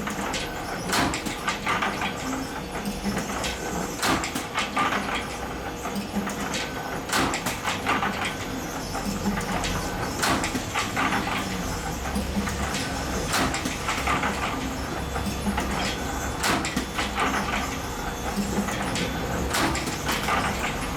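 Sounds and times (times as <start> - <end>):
machine clicks and clacks: 0.0 - 20.9
spring-making machine humming: 0.0 - 20.9.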